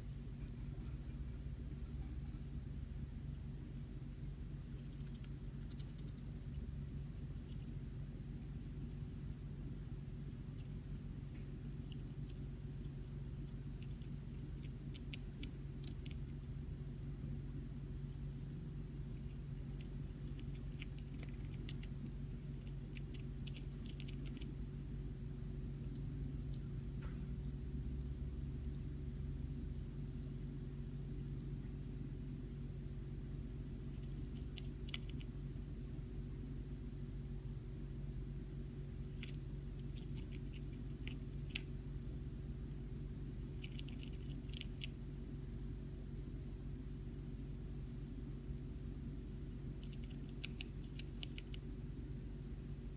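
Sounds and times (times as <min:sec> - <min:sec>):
hamster nibbling crisp clicks: 0:00.0 - 0:02.7, 0:04.0 - 0:09.2, 0:09.8 - 0:52.9
steady low hum: 0:00.0 - 0:52.9.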